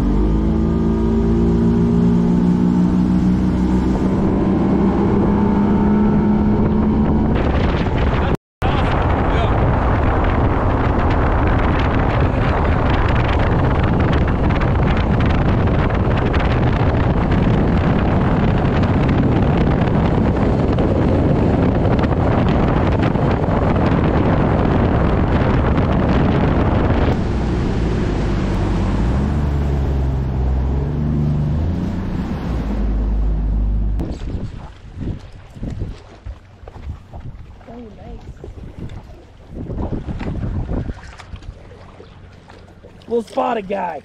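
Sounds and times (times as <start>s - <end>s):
boat engine drone: 0.0s - 34.7s, 40.5s - 44.0s
wind rushing over microphone: 0.0s - 42.2s.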